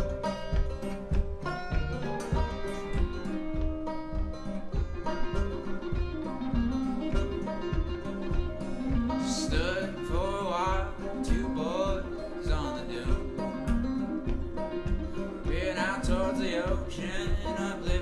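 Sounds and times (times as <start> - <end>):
acoustic guitar strumming: 0.0 - 18.0
banjo picking: 0.0 - 18.0.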